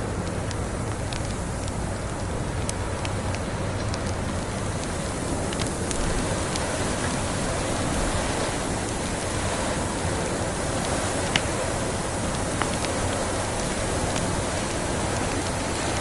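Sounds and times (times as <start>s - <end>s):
rushing blizzard wind: 0.0s - 16.0s
wood fire crackling: 0.0s - 16.0s.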